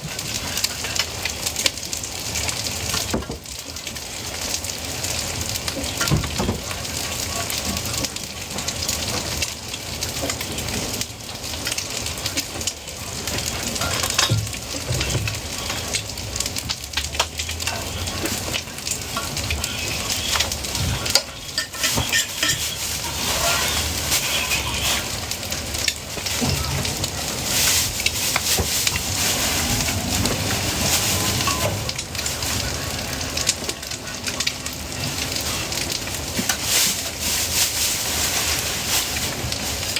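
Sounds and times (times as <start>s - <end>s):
food frying with crackles: 0.0s - 39.9s.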